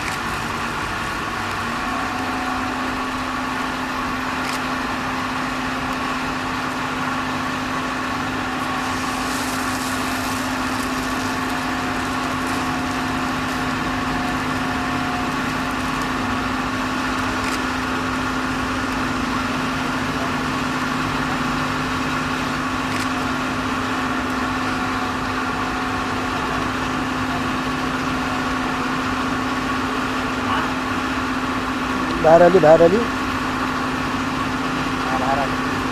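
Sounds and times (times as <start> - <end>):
electric machinery humming: 0.0 - 35.9.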